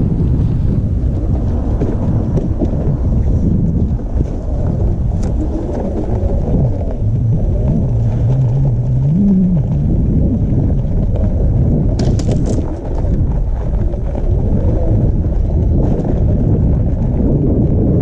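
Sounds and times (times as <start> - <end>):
low wavering hum: 0.0 - 18.0
wind rumble on microphone: 0.0 - 18.0.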